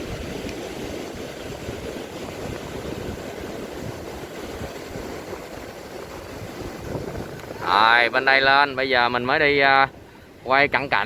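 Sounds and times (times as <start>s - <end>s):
surf washing: 0.0s - 11.0s
wind buffeting microphone: 0.0s - 11.0s.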